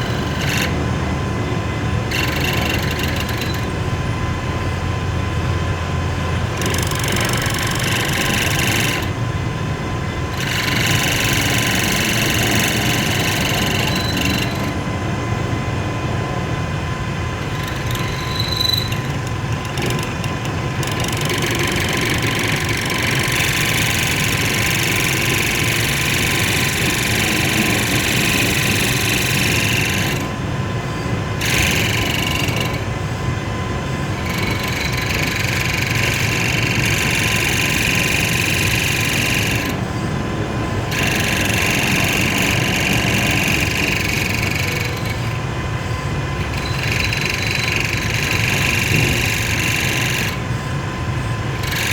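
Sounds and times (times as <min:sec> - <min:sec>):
lathe running with whine: 0:00.0 - 0:51.9.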